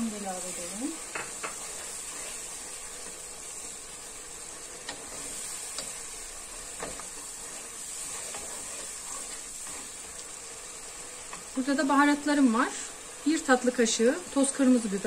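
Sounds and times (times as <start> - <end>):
food sizzling in a pot: 0.0 - 15.0.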